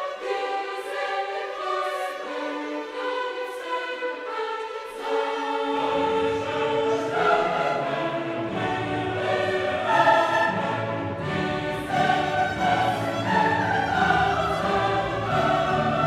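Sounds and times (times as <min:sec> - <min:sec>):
choir singing sustained notes: 0:00.0 - 0:16.0.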